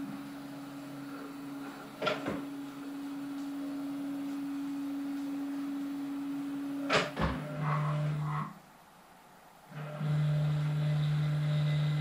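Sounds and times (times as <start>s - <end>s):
printers humming with low tone: 0.0s - 8.7s, 9.7s - 12.0s.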